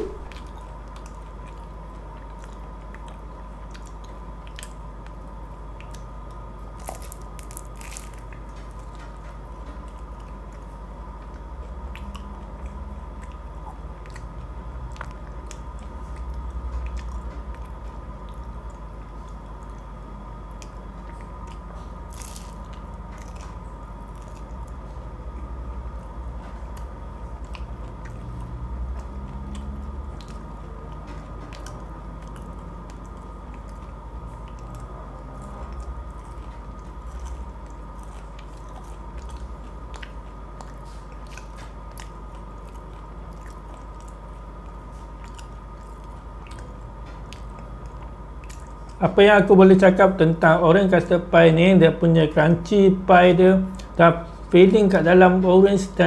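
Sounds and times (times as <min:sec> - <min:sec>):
soft chewing: 0:00.0 - 0:49.4, 0:53.6 - 0:54.6
pastry crust crunching: 0:00.1 - 0:49.3.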